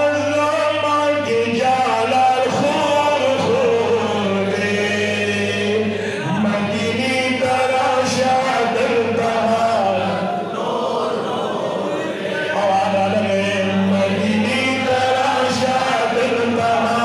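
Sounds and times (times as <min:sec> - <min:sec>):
man singing into a microphone: 0:00.0 - 0:11.2, 0:12.3 - 0:17.0
men chanting in chorus: 0:00.0 - 0:17.0.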